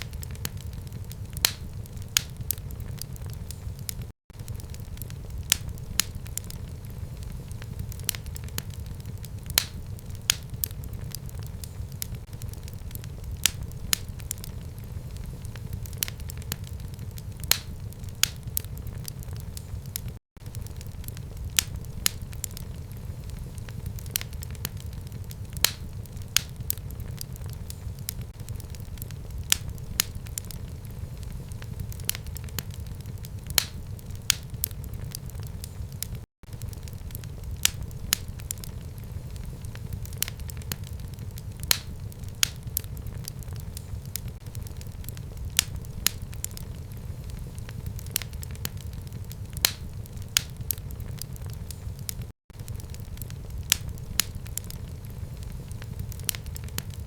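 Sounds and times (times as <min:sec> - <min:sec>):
fire crackles and pops: 0:00.0 - 0:57.0
low rumble of flames: 0:00.0 - 0:57.0.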